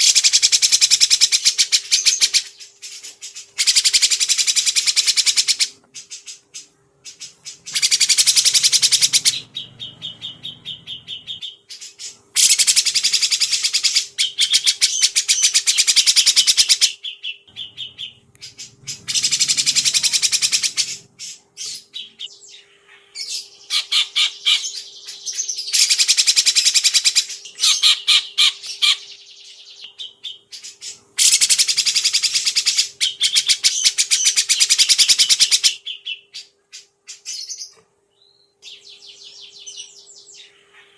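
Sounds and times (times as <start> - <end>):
songbird chattering trills: 0.0 - 37.7
faint steady hum: 0.0 - 40.9.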